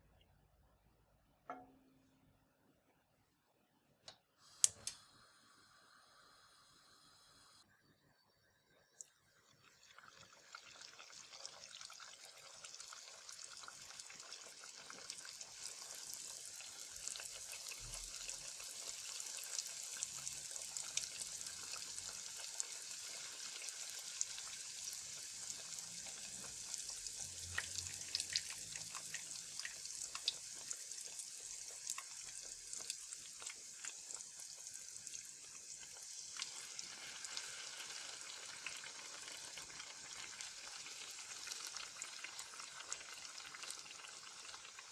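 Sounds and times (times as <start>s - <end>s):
dough deep-frying in oil: 8.8s - 44.9s.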